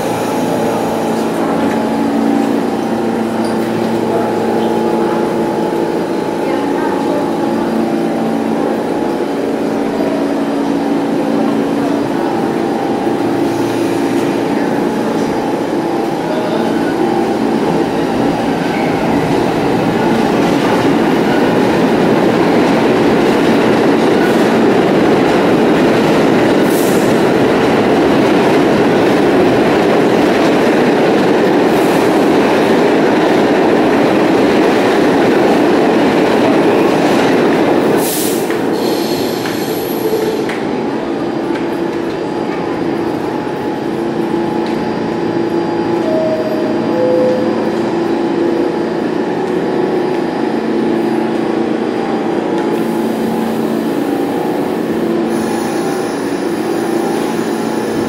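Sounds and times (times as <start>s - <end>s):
subway train rumbling on rails: 0.0s - 58.0s.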